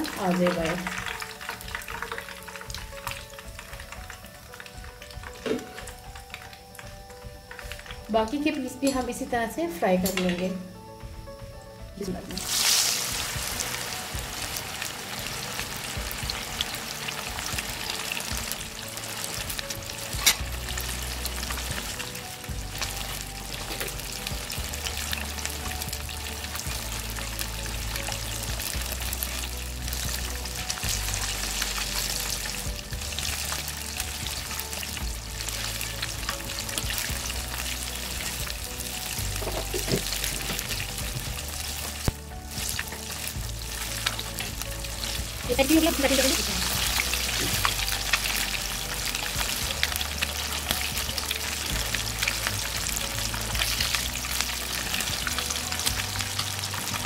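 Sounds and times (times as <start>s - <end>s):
fish sizzling in hot oil: 0.0s - 57.0s.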